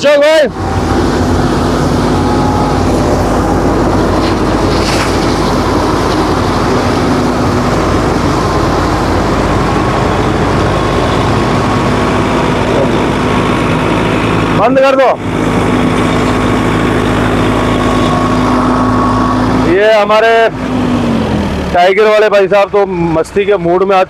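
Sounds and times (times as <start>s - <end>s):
tractor diesel engines running: 0.0s - 24.0s
rotavators churning mud and water: 0.5s - 19.9s.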